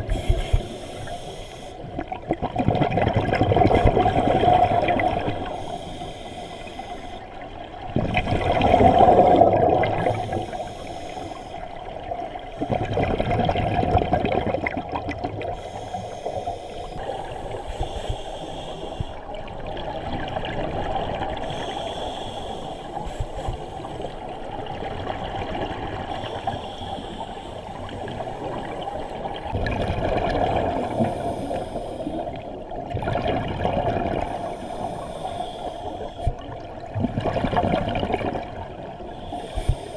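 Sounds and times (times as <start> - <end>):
steady underwater hiss: 0.0 - 2.2, 3.6 - 13.6, 14.7 - 37.0, 38.2 - 39.9
exhaled air bubbling underwater: 0.0 - 39.9.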